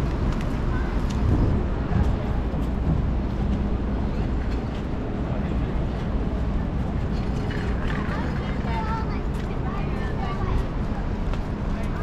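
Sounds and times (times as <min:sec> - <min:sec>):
low rumble of passing traffic: 0:00.0 - 0:12.0.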